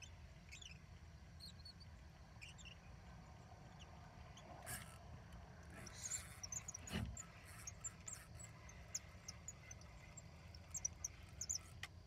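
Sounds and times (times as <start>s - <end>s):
small birds chirping: 0.0s - 4.9s, 5.7s - 12.0s.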